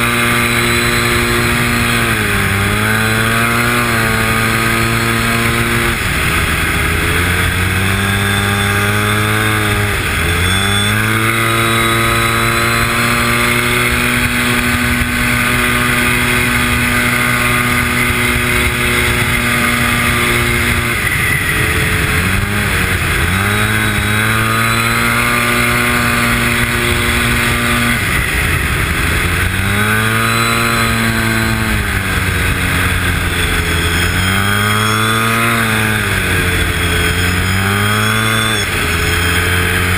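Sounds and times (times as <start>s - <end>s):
snowmobile engine running hard: 0.0s - 39.9s.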